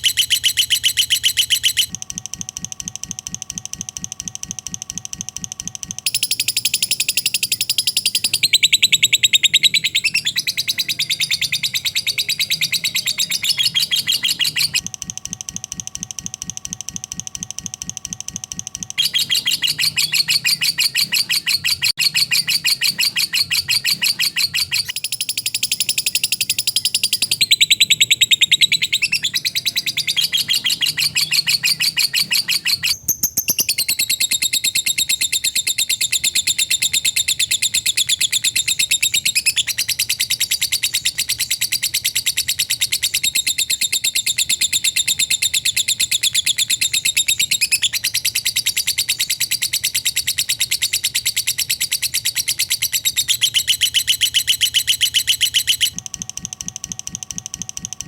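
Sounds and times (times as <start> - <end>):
lovebird fast chattering song: 0.0 - 2.0, 6.1 - 14.9, 19.0 - 56.0.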